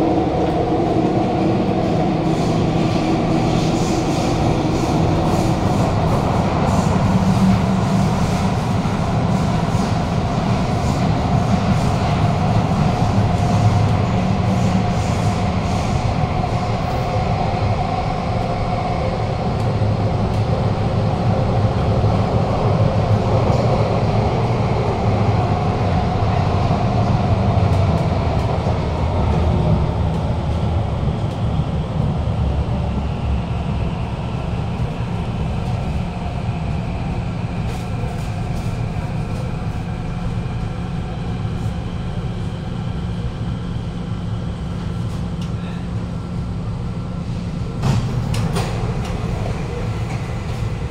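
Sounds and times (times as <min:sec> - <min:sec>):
wheels rumbling on rail: 0:00.0 - 0:50.9.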